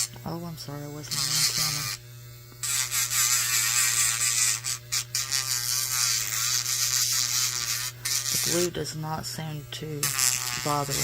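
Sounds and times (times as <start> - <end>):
nail drill motor hum: 0.0 - 11.0.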